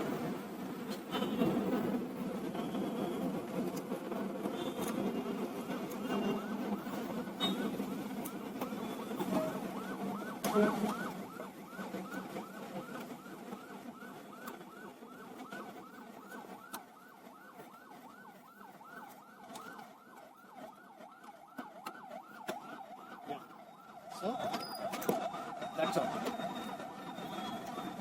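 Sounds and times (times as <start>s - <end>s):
emergency siren yelping: 4.5s - 28.0s.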